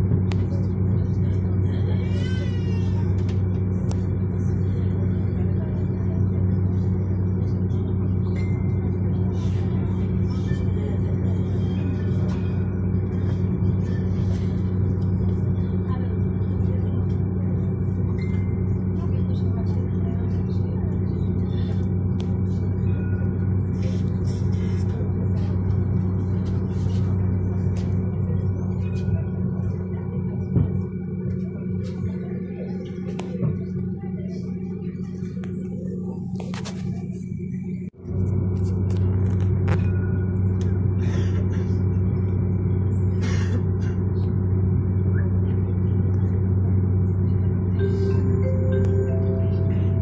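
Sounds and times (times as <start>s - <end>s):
tram hum: 0.0s - 50.0s.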